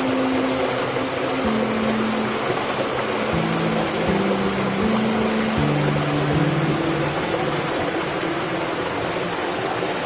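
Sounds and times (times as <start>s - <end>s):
slow background music: 0.0s - 10.0s
steady rushing noise: 0.0s - 10.0s.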